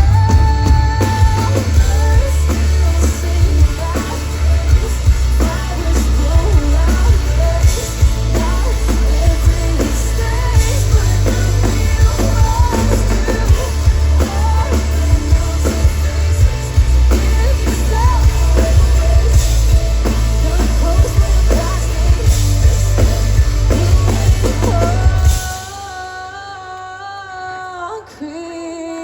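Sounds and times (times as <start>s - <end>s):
pop-rock band playing: 0.0s - 28.8s
person singing: 0.0s - 29.0s.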